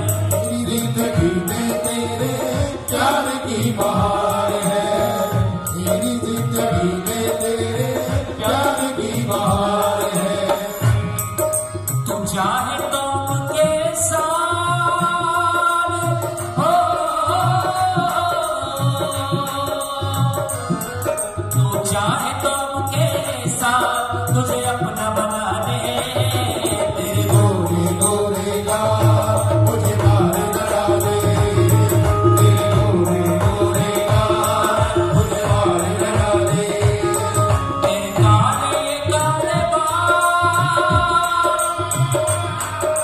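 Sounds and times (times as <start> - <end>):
tabla beat: 0.0 - 43.0.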